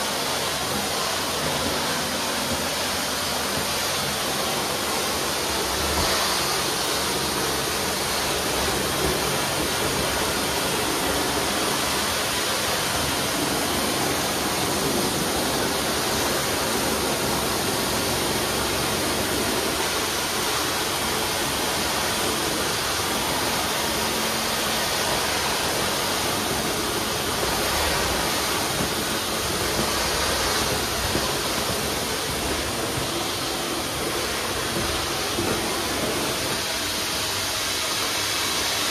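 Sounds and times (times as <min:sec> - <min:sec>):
pressurized water spraying hiss: 0:00.0 - 0:38.9.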